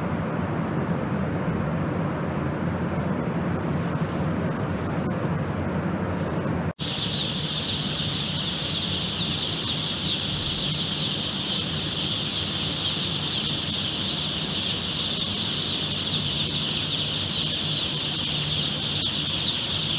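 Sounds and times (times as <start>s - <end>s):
low machine hum: 0.0s - 19.9s
chicks peeping and chirping: 3.0s - 19.9s.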